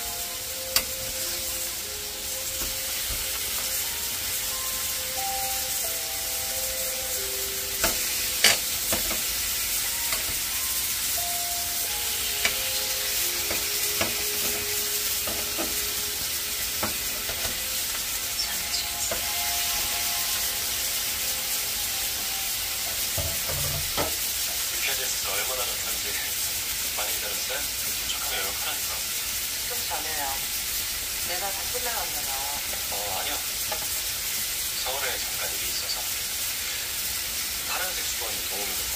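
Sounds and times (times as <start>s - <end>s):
meat sizzling on a grill pan: 0.0s - 38.9s.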